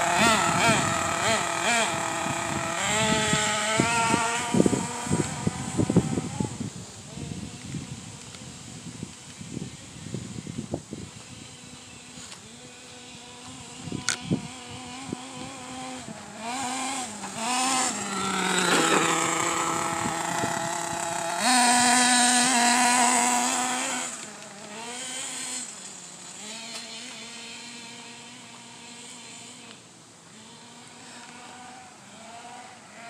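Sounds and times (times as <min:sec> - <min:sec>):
small nitro engine buzzing: 0:00.0 - 0:33.0.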